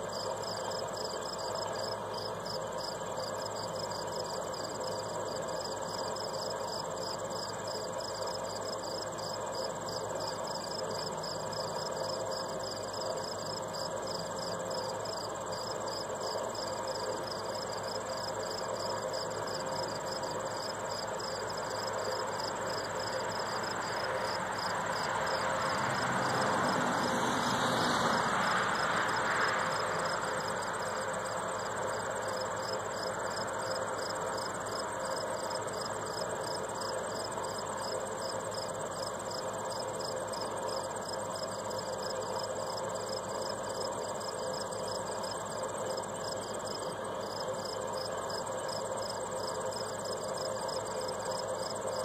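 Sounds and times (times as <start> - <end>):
continuous high insect trill: 0.0 - 52.0
insects chirping: 0.0 - 52.0.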